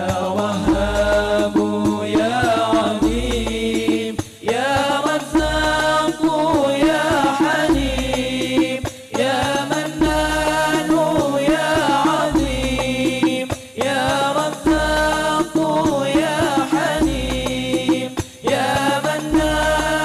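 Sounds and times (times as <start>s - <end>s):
frame drums with bass booms: 0.0s - 20.0s
group singing devotional chant: 0.0s - 20.0s.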